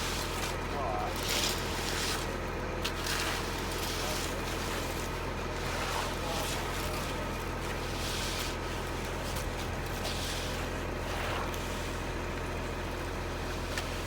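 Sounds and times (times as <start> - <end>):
low engine-like drone: 0.0 - 14.0.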